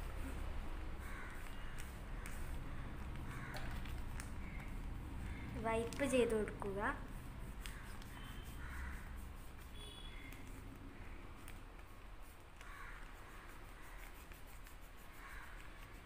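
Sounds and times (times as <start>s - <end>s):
cotton rubbing on paper: 0.0s - 16.0s.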